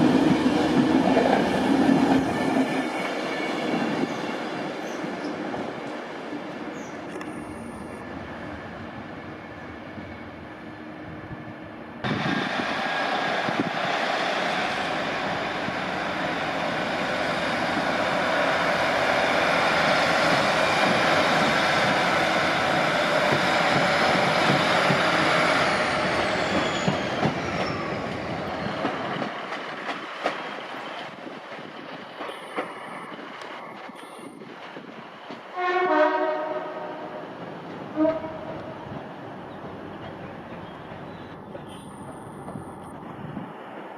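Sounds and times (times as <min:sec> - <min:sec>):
wheel and rail noise: 0:00.0 - 0:35.7, 0:37.1 - 0:43.9
train passing: 0:00.0 - 0:43.9.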